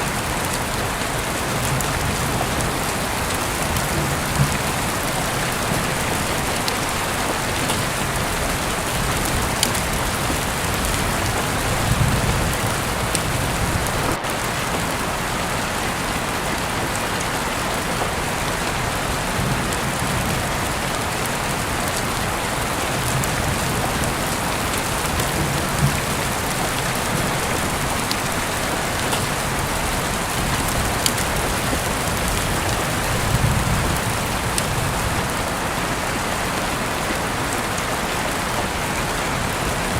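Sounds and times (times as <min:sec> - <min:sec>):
heavy rain falling: 0:00.0 - 0:39.9
raindrops ticking: 0:00.0 - 0:39.9.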